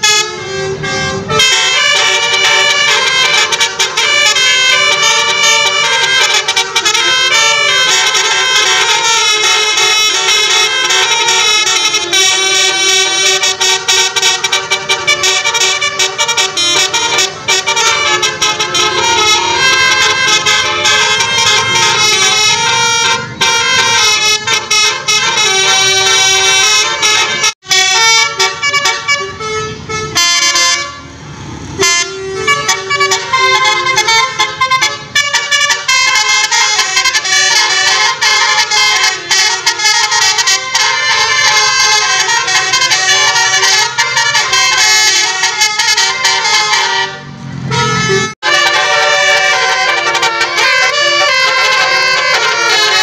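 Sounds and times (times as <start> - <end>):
musical air horns playing tunes: 0.0 - 53.0.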